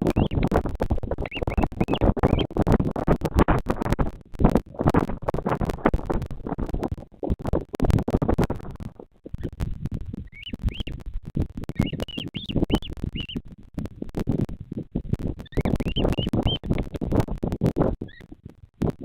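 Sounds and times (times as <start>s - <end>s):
microphone rumbling and crackling: 0.0s - 19.0s.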